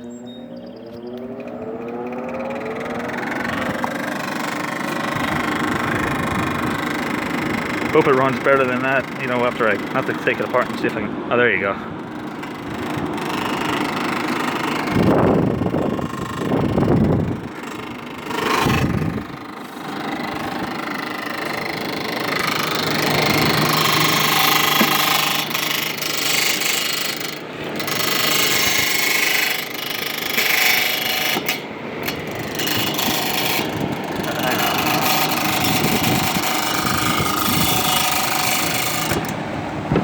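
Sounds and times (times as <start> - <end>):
air conditioner fan whirring: 0.0 - 40.0.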